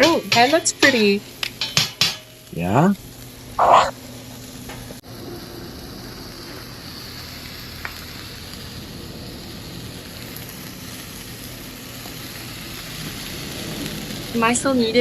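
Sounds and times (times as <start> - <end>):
food sizzling on grill: 0.0 - 15.0.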